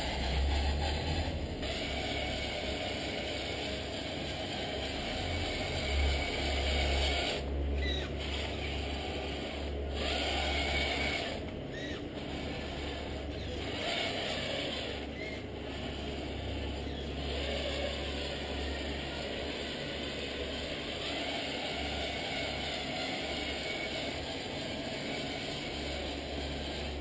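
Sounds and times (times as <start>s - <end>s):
toy truck motor whirring: 0.0s - 27.0s.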